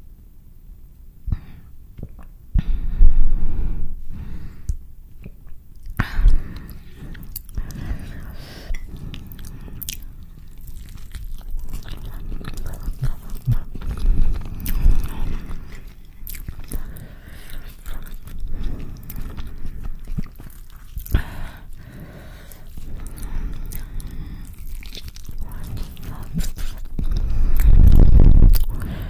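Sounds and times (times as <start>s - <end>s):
mouth clicks and smacks: 1.3s - 2.7s, 4.6s - 29.0s
mouth noises: 1.3s - 29.0s
wet chewing: 5.2s - 29.0s.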